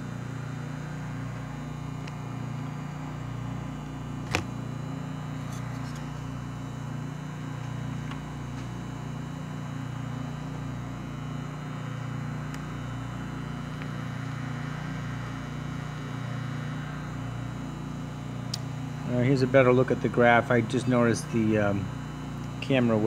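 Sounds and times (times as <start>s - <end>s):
vacuum furnace humming: 0.0s - 23.0s.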